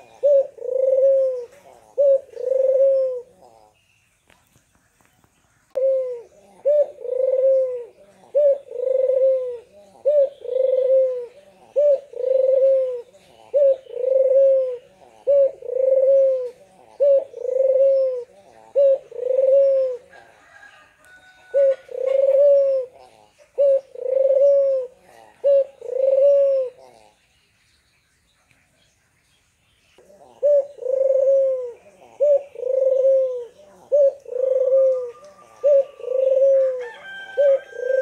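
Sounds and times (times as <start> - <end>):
dove cooing: 0.0 - 3.8, 5.7 - 27.3, 30.0 - 38.0.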